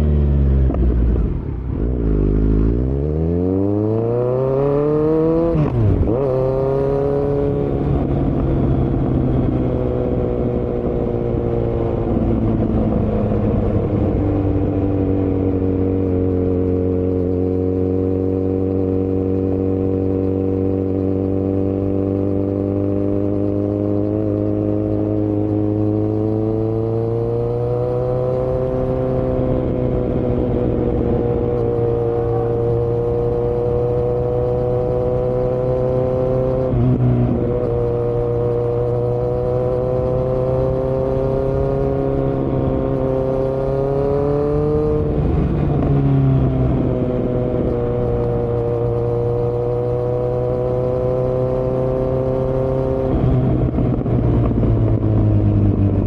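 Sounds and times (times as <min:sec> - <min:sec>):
motorcycle engine at steady revs: 0:00.0 - 0:56.0.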